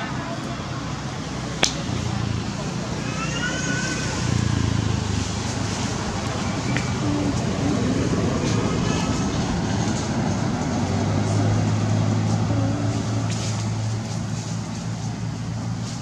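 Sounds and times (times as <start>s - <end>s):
branches rustling: 0.0s - 16.0s
vehicle engine humming: 0.0s - 16.0s.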